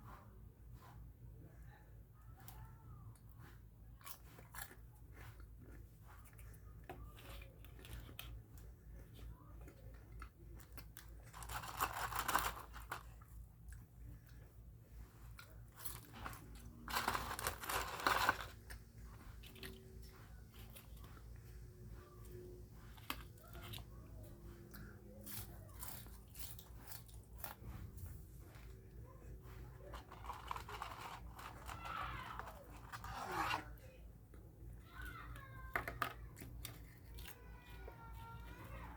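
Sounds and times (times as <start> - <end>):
chewing crispy food: 2.1 - 33.1, 33.7 - 38.9.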